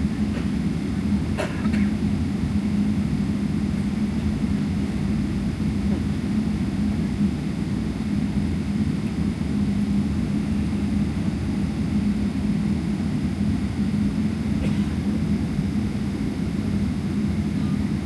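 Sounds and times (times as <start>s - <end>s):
constant hum: 0.0s - 18.0s
jet engine cabin rumble: 0.0s - 18.0s.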